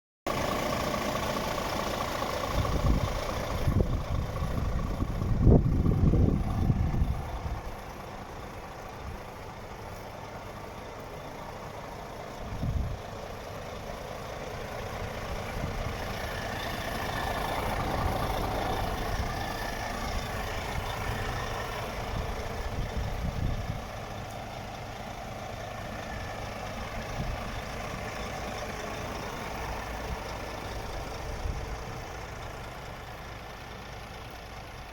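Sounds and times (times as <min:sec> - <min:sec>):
low rumbles: 0:00.3 - 0:34.9
truck diesel engine idling: 0:00.3 - 0:34.9.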